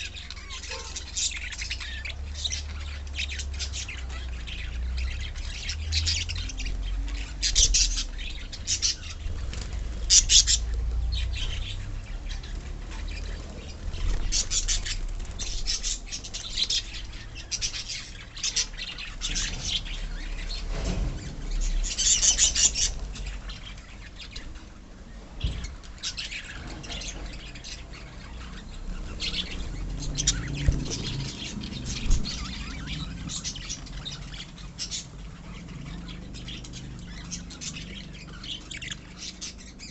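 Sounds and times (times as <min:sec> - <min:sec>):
lovebirds chirping and squawking: 0:00.0 - 0:39.9.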